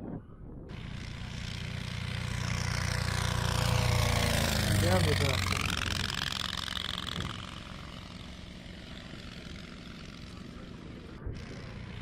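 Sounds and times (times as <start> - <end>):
propeller aircraft engine running: 0.0 - 12.0.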